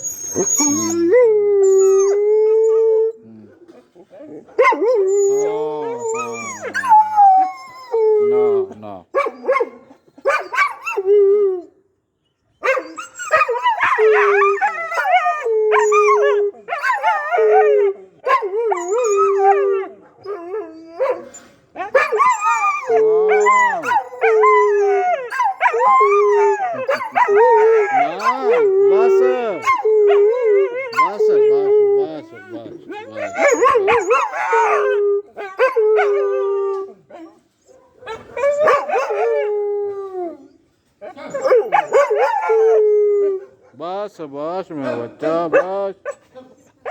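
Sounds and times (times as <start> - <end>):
dog howling and whining: 0.0 - 11.7, 12.6 - 43.7.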